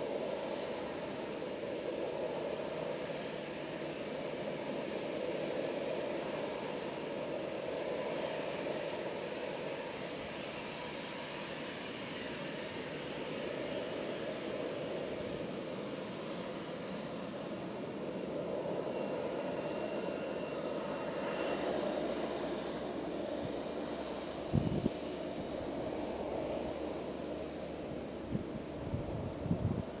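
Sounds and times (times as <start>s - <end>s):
jet engines running: 0.0s - 30.0s.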